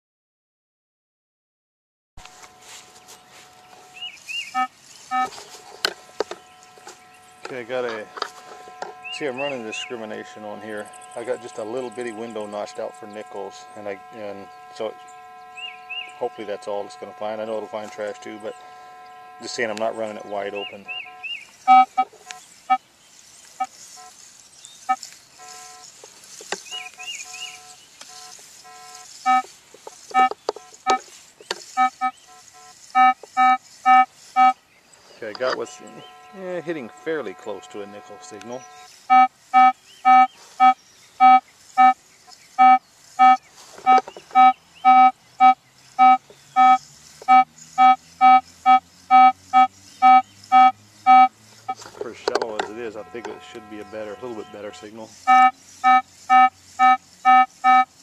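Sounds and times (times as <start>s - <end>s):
metal detector beeps: 2.2s - 22.8s, 23.6s - 24.2s, 24.8s - 34.6s, 35.2s - 42.0s, 42.6s - 58.0s
bird chirping: 2.4s - 58.0s.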